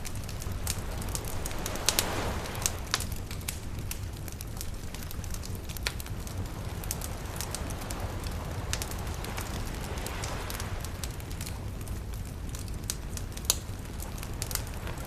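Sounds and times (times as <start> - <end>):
campfire crackling and popping: 0.0 - 15.0
surf washing: 0.0 - 15.0.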